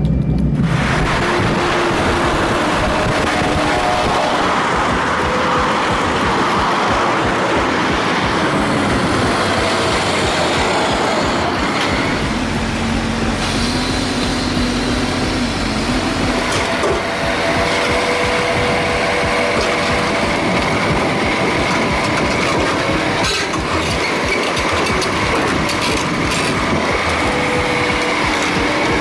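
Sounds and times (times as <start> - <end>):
heavy truck engine: 0.0 - 29.0
road noise: 0.0 - 29.0.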